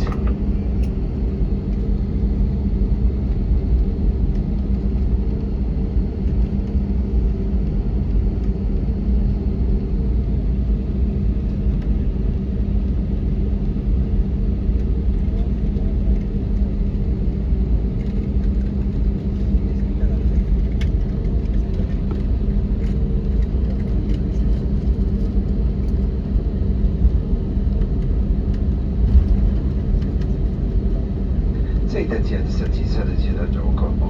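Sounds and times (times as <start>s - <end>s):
aircraft cabin engine rumble: 0.0s - 34.0s.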